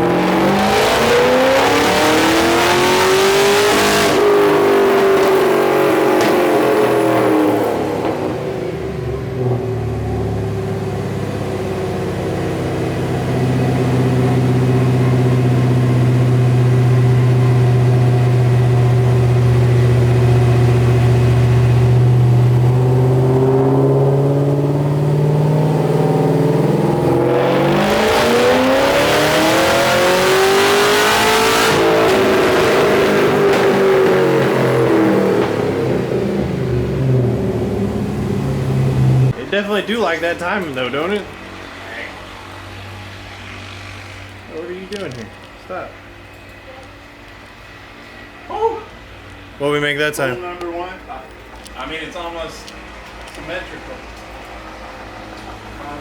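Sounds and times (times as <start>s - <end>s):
car engine revving on dyno: 0.0s - 46.6s, 52.1s - 56.0s.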